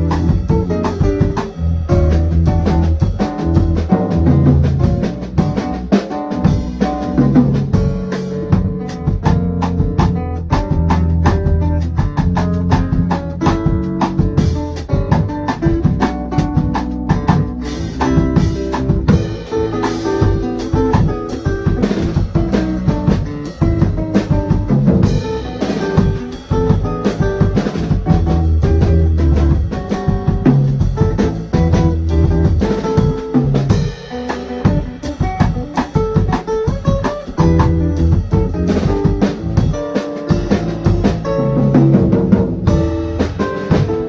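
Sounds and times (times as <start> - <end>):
drum kit groove: 0.0 - 44.0
guitar playing samba: 0.0 - 44.0
low bass notes: 0.0 - 44.0.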